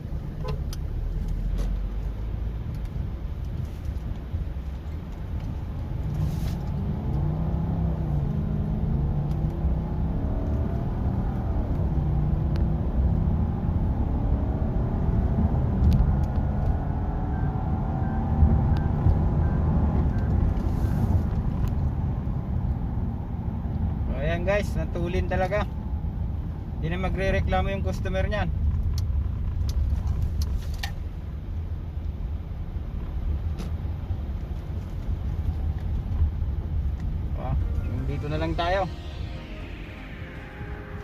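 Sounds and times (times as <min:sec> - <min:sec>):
car cabin road and engine rumble: 0:00.0 - 0:38.9.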